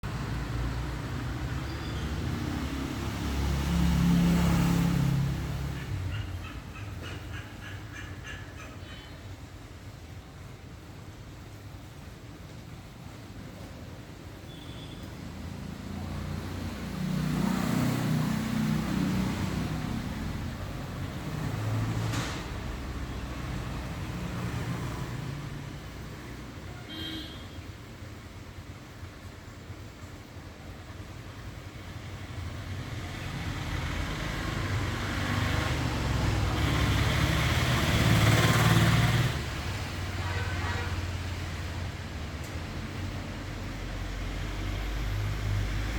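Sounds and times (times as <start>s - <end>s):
vehicle passing with tyre noise: 0.0s - 9.1s, 12.6s - 29.8s, 30.4s - 45.9s.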